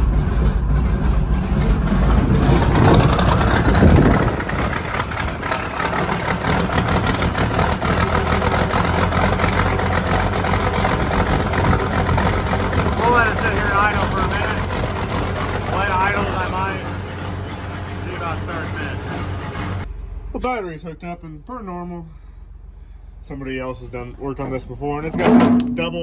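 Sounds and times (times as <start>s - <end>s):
diesel tractor engine idling: 0.0s - 20.9s.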